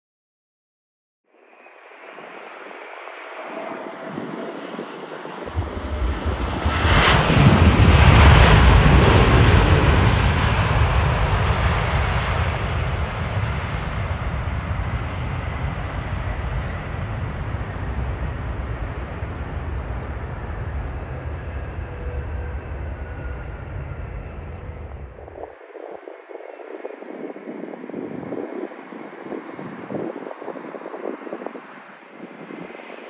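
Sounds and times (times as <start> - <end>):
jet engines at takeoff: 1.4 - 33.0
deep rumble: 3.5 - 31.6.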